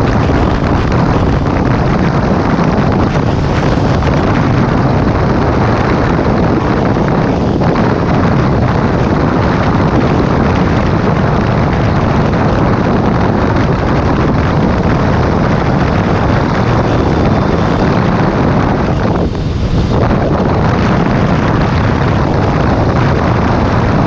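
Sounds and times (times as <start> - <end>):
motorcycle engine: 0.0 - 24.0
road noise: 0.0 - 24.0
wind rushing over microphone: 0.0 - 24.0.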